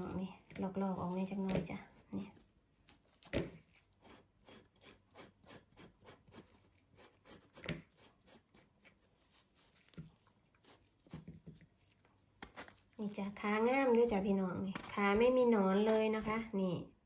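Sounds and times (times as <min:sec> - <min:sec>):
mushroom peeling ticks and rubbing: 0:00.8 - 0:16.6.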